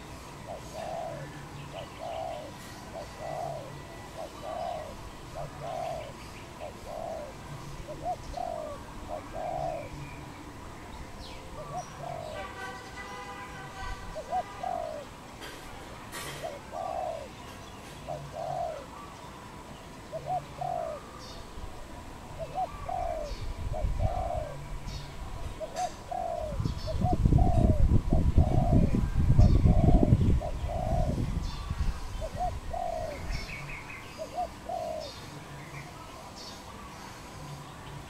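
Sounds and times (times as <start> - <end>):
dove cooing: 0.0 - 10.2, 11.5 - 12.6, 13.9 - 19.3, 20.0 - 35.3.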